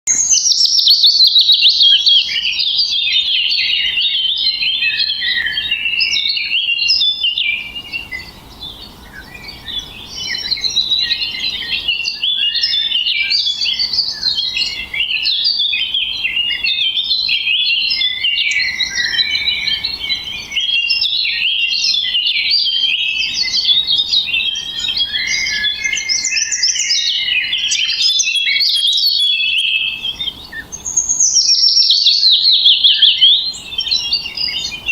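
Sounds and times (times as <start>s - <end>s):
songbirds chirping and twittering: 0.0s - 34.9s.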